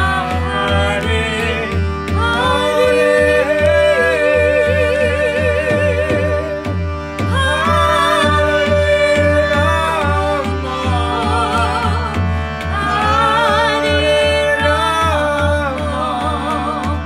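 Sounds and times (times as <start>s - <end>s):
woman and man singing a chant: 0.0s - 6.6s, 7.3s - 17.0s
hand drum beat: 0.0s - 17.0s
harmonium chords: 0.0s - 17.0s.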